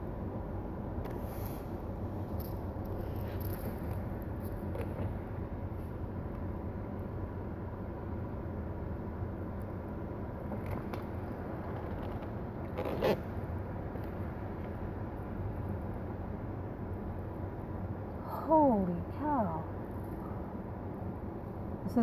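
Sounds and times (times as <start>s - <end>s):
low rumble of motor vehicles: 0.0s - 22.0s.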